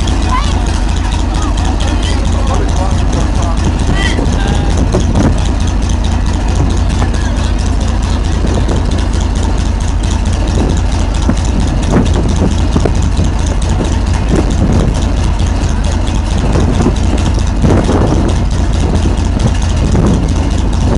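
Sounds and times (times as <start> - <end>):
tank engine idling: 0.0 - 20.9.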